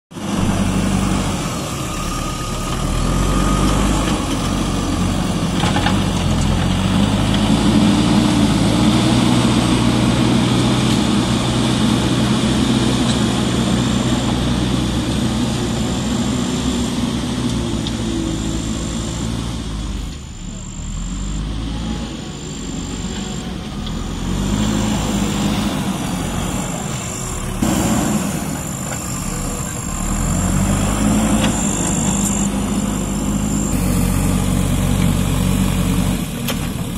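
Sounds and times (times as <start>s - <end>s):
backhoe diesel engine running: 0.1s - 36.9s.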